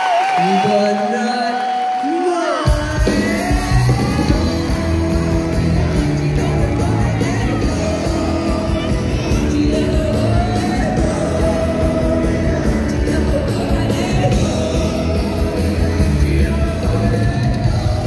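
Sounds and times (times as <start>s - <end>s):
crowd singing and yelling: 0.0s - 18.0s
live rock band playing: 2.6s - 18.0s.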